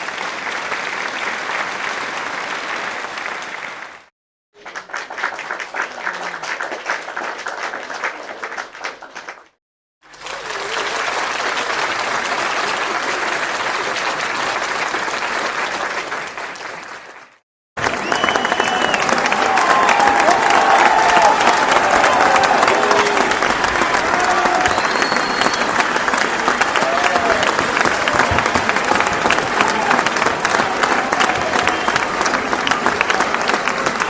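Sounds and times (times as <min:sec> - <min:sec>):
audience applause: 0:00.0 - 0:34.0.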